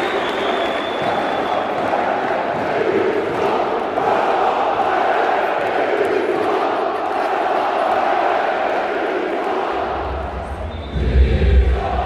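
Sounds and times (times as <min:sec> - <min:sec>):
crowd chanting: 0:00.9 - 0:12.0.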